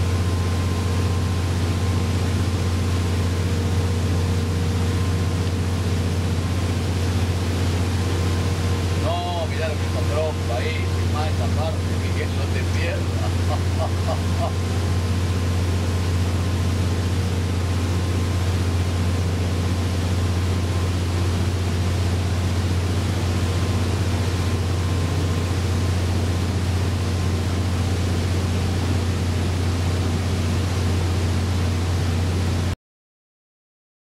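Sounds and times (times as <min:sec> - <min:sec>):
wind and water hiss: 0:00.0 - 0:32.7
boat engine drone: 0:00.0 - 0:32.8.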